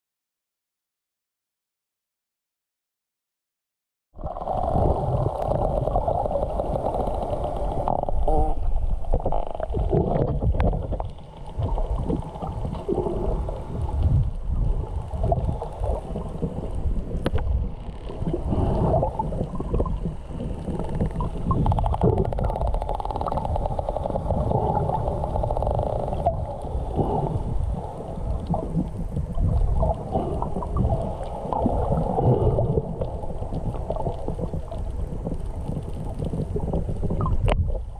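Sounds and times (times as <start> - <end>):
underwater water rushing: 4.2 - 37.9
dolphins clicking and calling: 4.4 - 14.0, 14.9 - 37.6.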